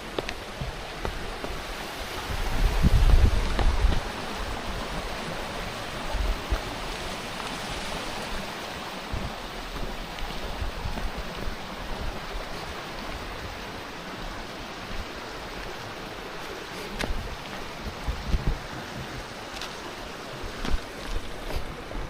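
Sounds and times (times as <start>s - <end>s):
water flowing from waterfall: 0.0s - 22.0s
wind rumble on microphone: 0.4s - 16.3s, 16.9s - 22.0s.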